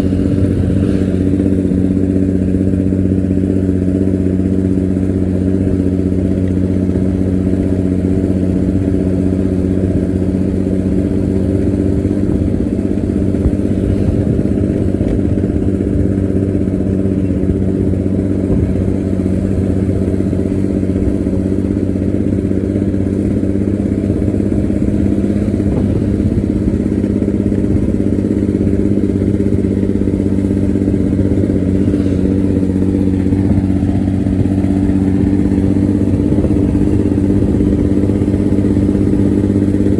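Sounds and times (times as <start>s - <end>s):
bus diesel engine snoring exhaust: 0.0s - 39.9s.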